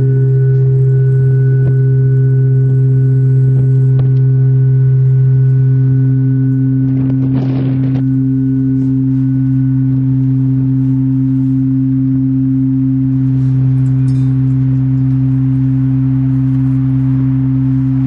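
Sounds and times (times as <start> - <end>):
church bell humming: 0.0 - 18.0.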